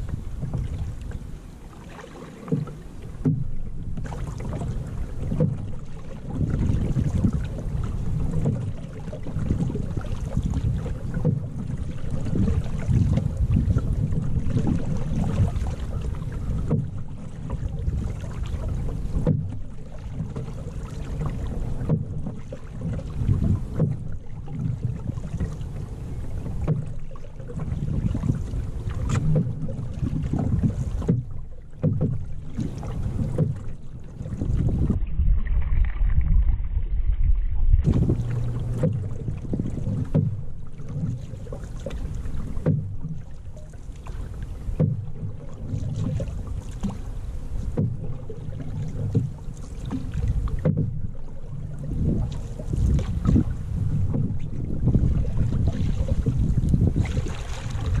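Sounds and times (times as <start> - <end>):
wind buffeting microphone: 0.0 - 1.4, 2.6 - 31.4, 32.1 - 40.6, 44.2 - 58.0
paddling water sounds: 0.0 - 58.0.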